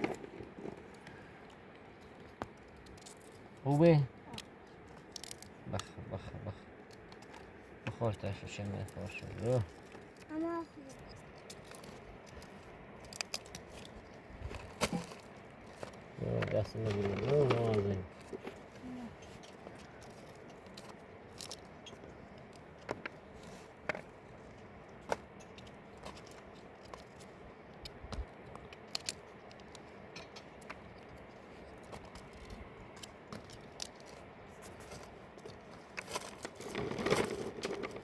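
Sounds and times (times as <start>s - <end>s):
small clicks taps and scrapes: 0.0s - 3.7s, 6.8s - 8.0s, 8.6s - 38.0s.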